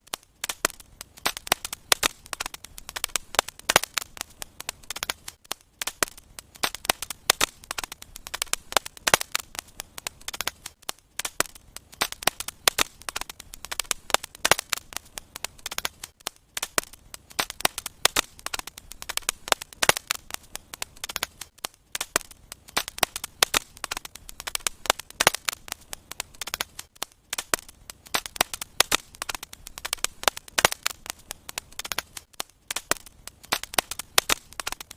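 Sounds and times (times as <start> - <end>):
fireplace fire crackling: 0.0 - 34.9.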